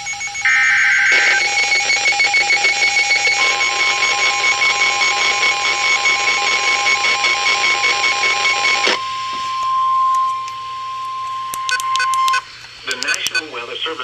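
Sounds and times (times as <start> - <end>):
rapid pulsing beep: 0.0 - 13.5
steady warning tone: 0.0 - 13.6
loud static: 0.1 - 14.0.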